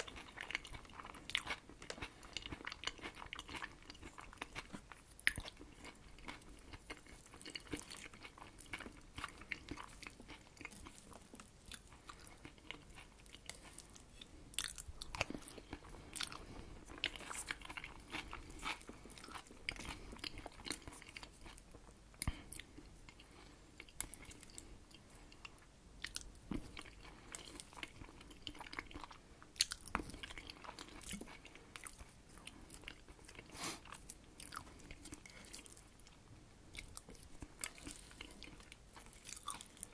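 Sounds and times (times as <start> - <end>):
close chewing and crunching: 0.0 - 39.9.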